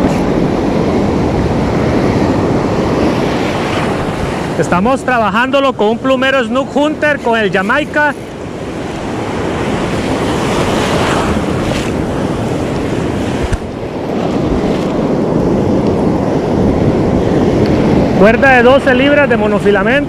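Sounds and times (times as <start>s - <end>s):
ocean surf breaking: 0.0s - 20.0s
wind on microphone: 0.0s - 20.0s.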